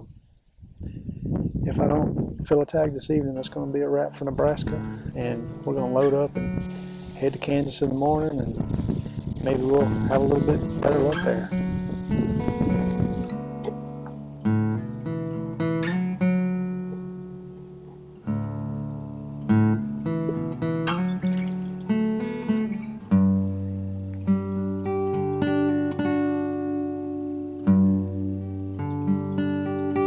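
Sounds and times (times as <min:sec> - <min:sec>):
acoustic guitar plucked and strummed: 0:03.4 - 0:30.0.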